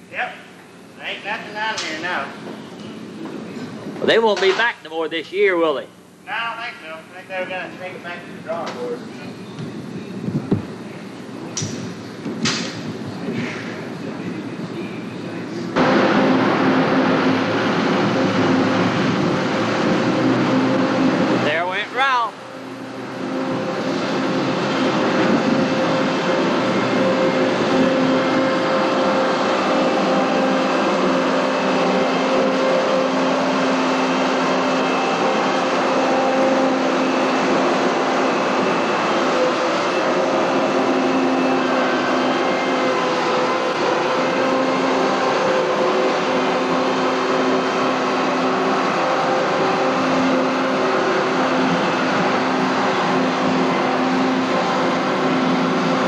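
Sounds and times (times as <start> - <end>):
harvest machinery engine drone: 0.0 - 56.0.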